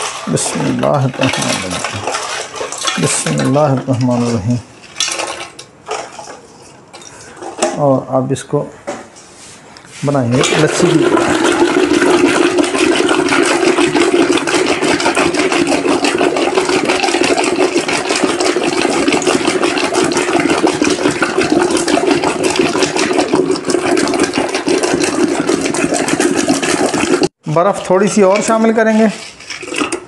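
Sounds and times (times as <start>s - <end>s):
liquid churning: 0.0s - 7.6s, 10.0s - 30.0s.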